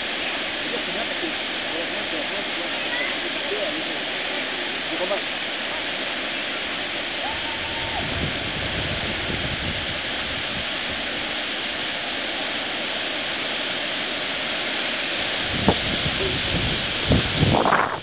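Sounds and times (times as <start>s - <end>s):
river water rushing over weir: 0.0s - 18.0s.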